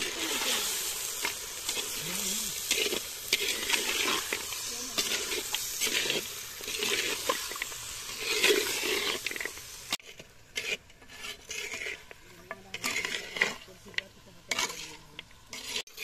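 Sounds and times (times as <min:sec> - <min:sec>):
meat sizzling in a pot: 0:00.0 - 0:16.0
metal spatula scraping pot: 0:00.0 - 0:16.0.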